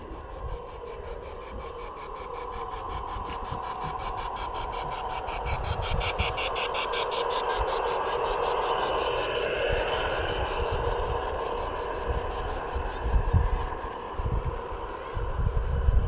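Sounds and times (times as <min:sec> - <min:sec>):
model train motor hum: 0:00.0 - 0:16.0.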